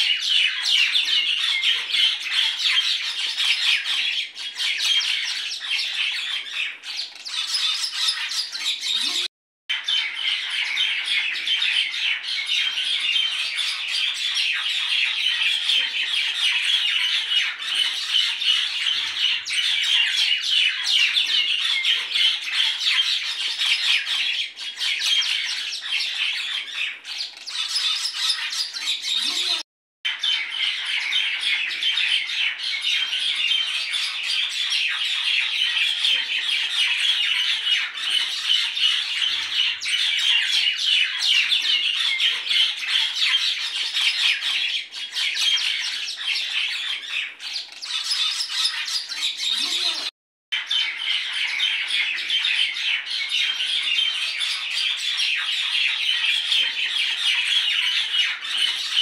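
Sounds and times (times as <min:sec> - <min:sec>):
birds chattering and squawking: 0:00.0 - 0:59.0.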